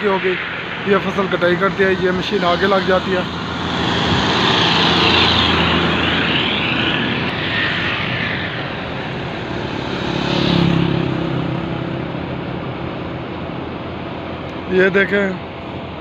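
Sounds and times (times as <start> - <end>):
vehicle engine hum passing: 0.0 - 16.0.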